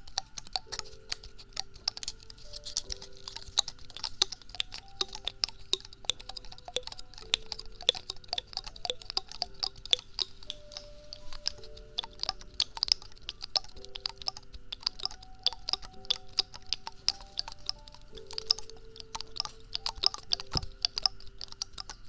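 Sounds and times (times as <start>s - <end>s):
faint background music: 0.0s - 22.0s
small objects clicking and tapping: 0.0s - 22.0s.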